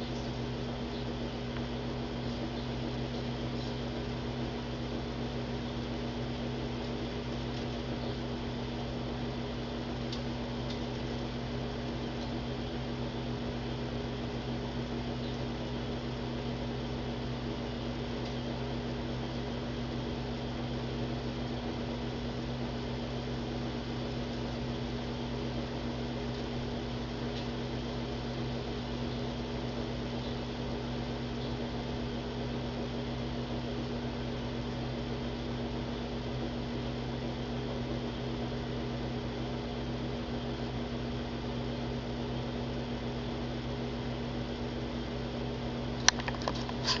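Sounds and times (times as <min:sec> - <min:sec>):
electrical hum: 0:00.0 - 0:47.0.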